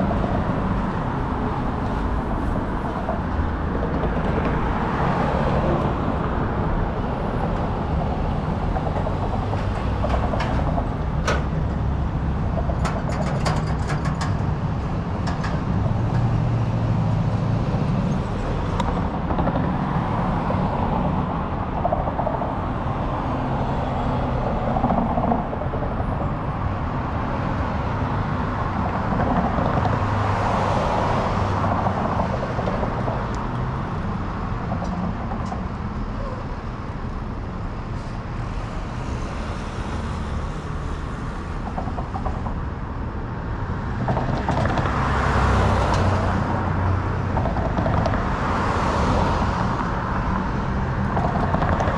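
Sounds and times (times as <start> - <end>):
city traffic rumble: 0.0 - 51.9.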